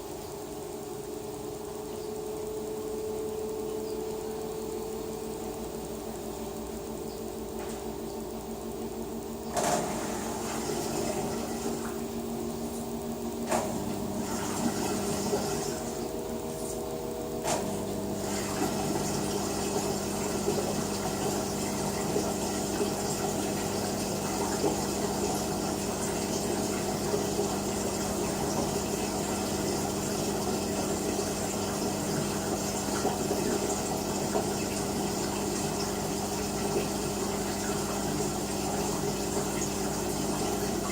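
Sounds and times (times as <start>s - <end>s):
steady motor hum: 0.0s - 40.9s
washing machine running: 0.0s - 40.9s.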